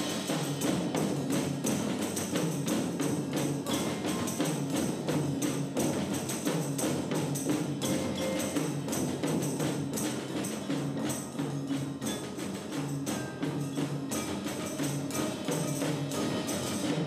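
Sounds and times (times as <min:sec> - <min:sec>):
mallet keyboards playing: 0:00.0 - 0:17.0
timpani beats: 0:00.0 - 0:17.0.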